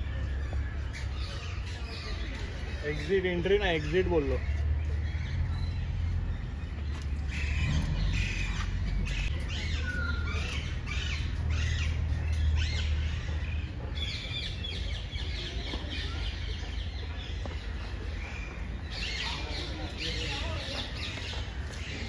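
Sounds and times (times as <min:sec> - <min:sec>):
birds squawking and chirping: 0:00.0 - 0:22.0.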